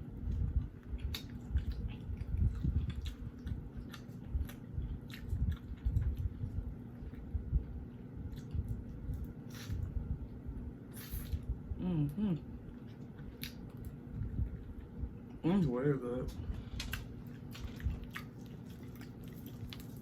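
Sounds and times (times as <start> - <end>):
chewing fried chicken: 0.0 - 20.0.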